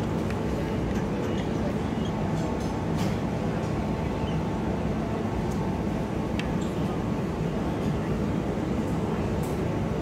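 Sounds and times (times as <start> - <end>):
indistinct chatter: 0.0 - 10.0
low rumble of background noise: 0.0 - 10.0.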